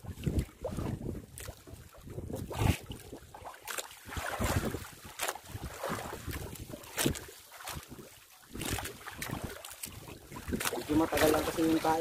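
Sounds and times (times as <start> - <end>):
wind buffeting microphone: 0.0 - 3.4, 4.0 - 12.0
sea water slapping against boat: 0.0 - 12.0.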